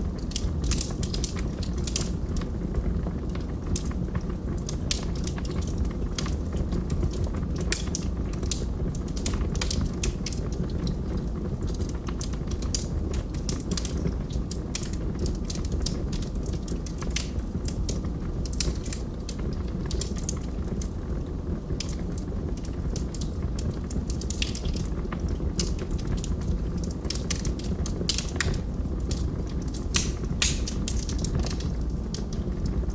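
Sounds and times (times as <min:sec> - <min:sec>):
log fire crackling: 0:00.0 - 0:32.9.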